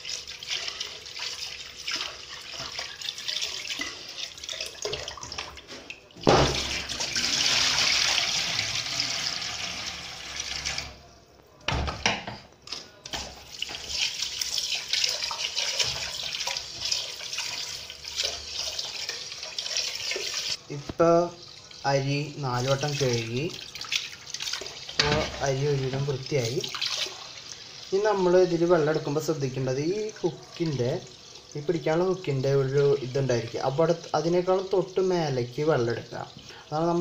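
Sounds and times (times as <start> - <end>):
tap water running into pot: 0.0 - 11.0, 12.7 - 20.6, 21.4 - 36.6
water gushing into steel sink: 0.0 - 11.0, 13.1 - 20.6, 21.4 - 36.7.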